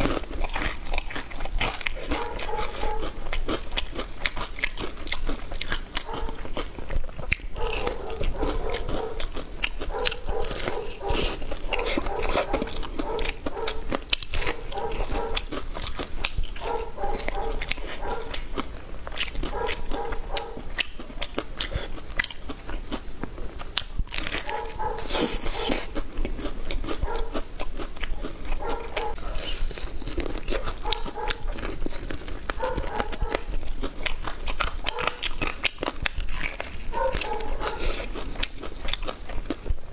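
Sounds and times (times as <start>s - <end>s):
wet mouth sounds: 0.0s - 23.0s, 23.7s - 39.8s
crunchy bites and chewing: 0.0s - 39.9s.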